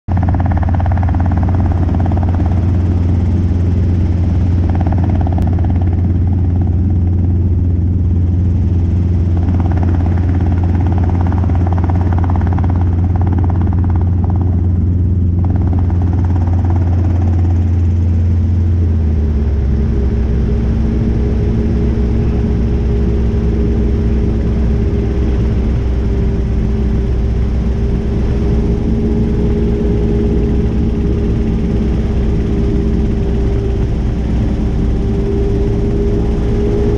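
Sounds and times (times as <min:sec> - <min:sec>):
helicopter rotor and engine drone: 0:00.1 - 0:36.9
higher engine tone: 0:00.1 - 0:36.9.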